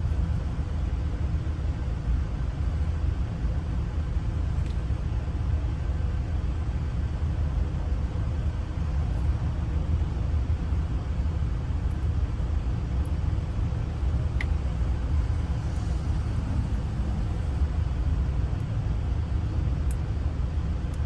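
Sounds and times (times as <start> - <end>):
vehicle rumble: 0.0 - 21.0.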